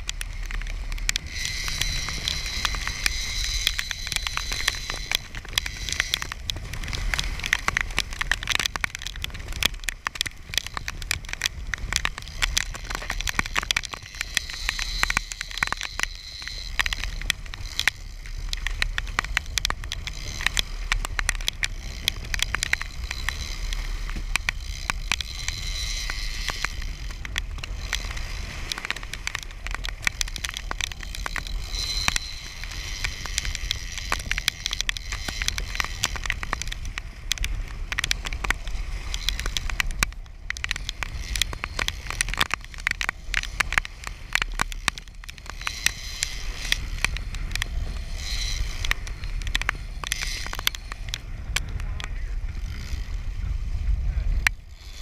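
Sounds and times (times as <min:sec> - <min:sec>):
fishing reel clicking: 0:00.0 - 0:55.0.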